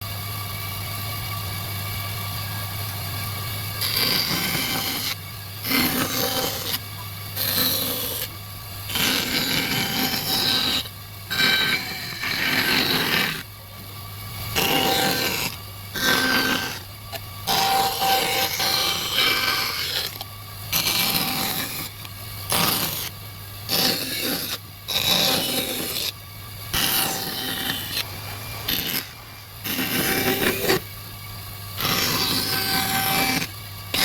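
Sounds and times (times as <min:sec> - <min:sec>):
steady low hum: 0:00.0 - 0:34.0
woodworking tool rasping wood: 0:03.8 - 0:06.8, 0:07.4 - 0:13.5, 0:14.5 - 0:30.9, 0:31.8 - 0:34.0.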